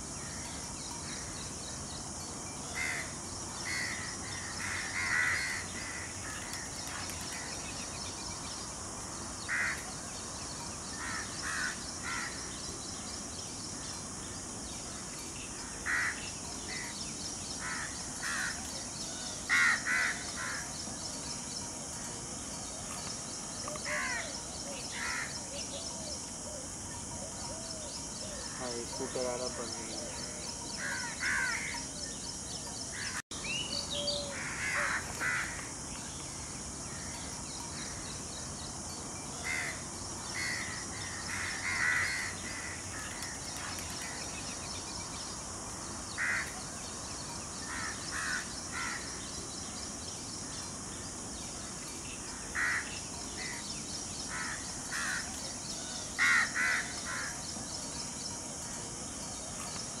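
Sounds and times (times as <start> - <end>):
steady high hiss: 0.0 - 60.0.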